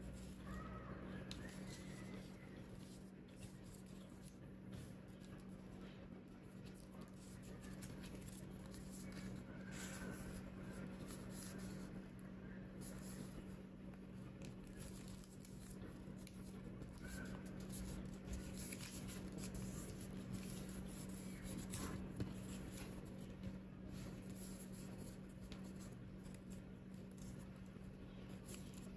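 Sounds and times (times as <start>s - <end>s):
steady low hum: 0.0s - 28.9s
paper rustling and crinkling: 0.1s - 28.9s.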